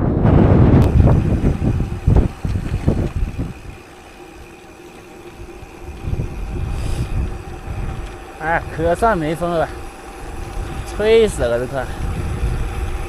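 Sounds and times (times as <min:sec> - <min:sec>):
wind buffeting microphone: 0:00.0 - 0:13.0
faint steady hum: 0:00.3 - 0:13.0.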